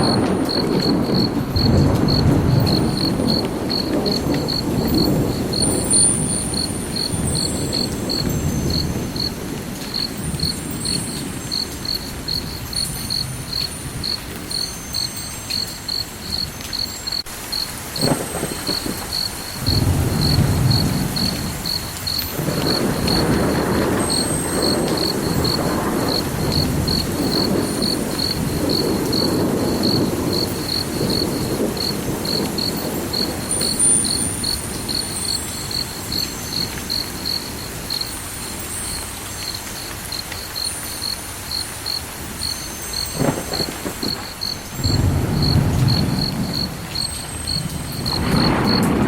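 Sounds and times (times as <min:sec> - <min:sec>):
cricket chirping: 0:00.0 - 0:49.0.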